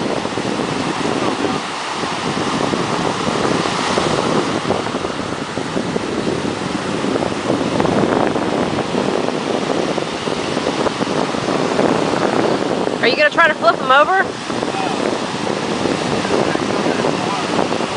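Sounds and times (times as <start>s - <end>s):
ocean surf washing: 0.0s - 17.9s
wind buffeting microphone: 0.0s - 17.9s.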